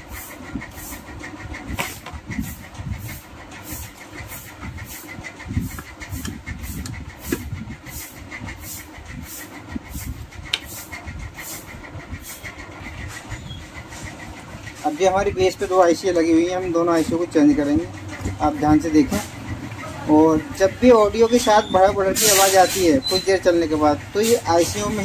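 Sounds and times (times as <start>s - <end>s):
pulsing mechanical hum: 0.0s - 22.2s.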